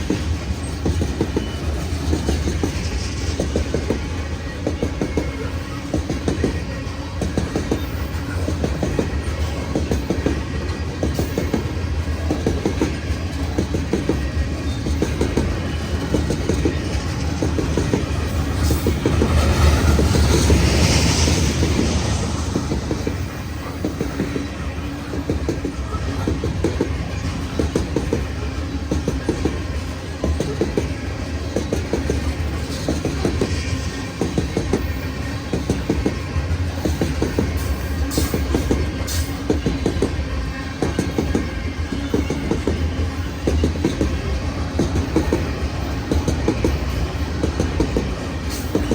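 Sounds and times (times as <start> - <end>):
train cars rumbling past: 0.0 - 48.9.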